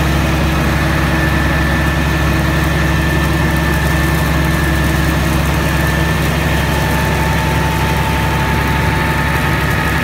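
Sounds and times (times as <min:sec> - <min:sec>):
lower whine: 0:00.0 - 0:10.0
tractor engine running: 0:00.0 - 0:10.0.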